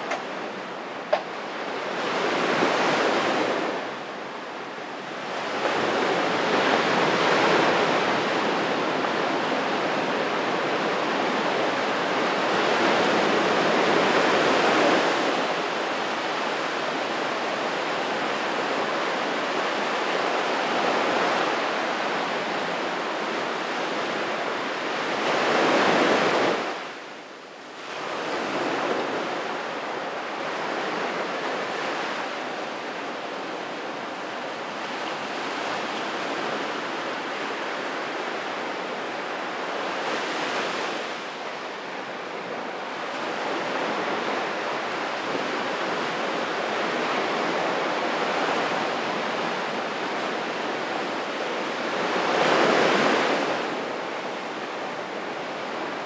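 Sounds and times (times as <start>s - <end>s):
small waves breaking on sand: 0.0s - 56.0s.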